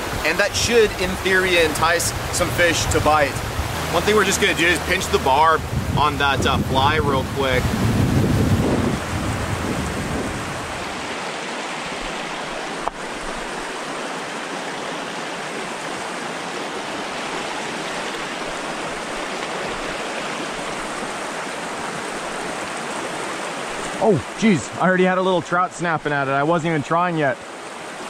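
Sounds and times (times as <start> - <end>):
creek flowing over stones: 0.0 - 28.0.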